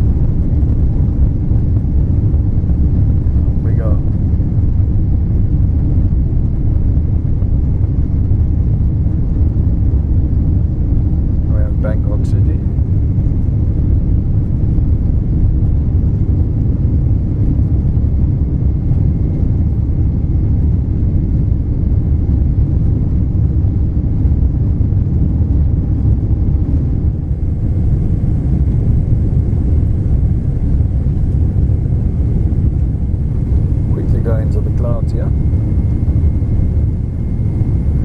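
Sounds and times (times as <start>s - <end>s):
jet engine cabin rumble: 0.0s - 38.0s.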